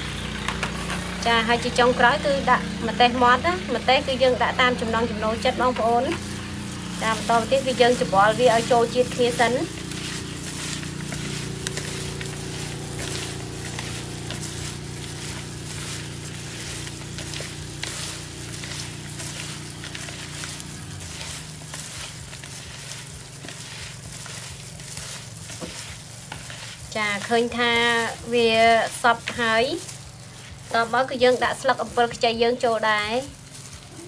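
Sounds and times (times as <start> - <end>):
plastic glove rustling: 0.0 - 2.0, 3.3 - 34.0
wet squishing of fish mixture: 5.4 - 34.0.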